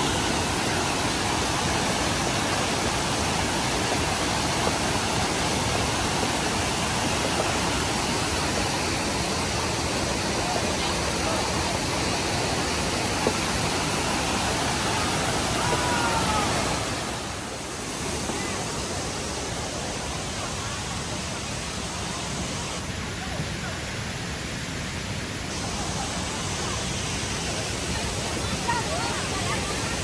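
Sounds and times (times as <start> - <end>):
waterfall rushing and splashing: 0.0 - 30.0.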